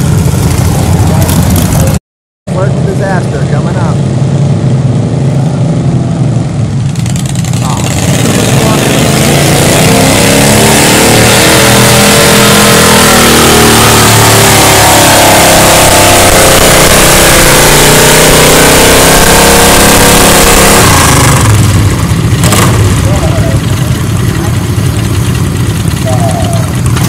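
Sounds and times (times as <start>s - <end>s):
loud tractor engine: 0.0s - 27.0s.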